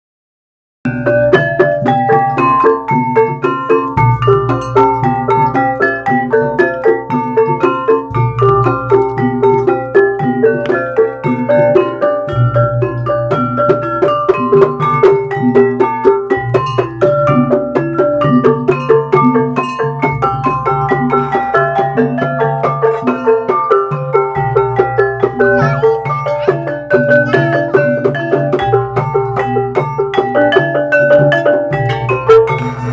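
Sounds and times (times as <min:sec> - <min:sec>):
drum strokes: 0:00.9 - 0:32.9
mallet percussion runs: 0:00.9 - 0:32.9.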